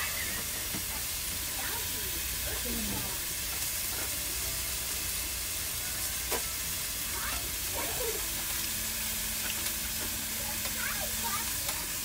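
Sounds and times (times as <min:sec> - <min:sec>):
food sizzling on a grill: 0:00.0 - 0:12.0.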